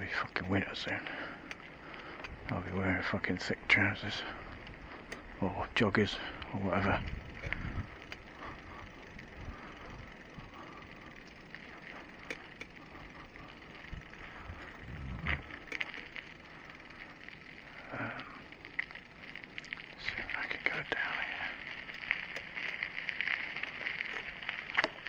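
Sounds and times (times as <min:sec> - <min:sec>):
bicycle tyres on path: 0:00.0 - 0:25.0
bike clicks and rattles: 0:00.0 - 0:25.0.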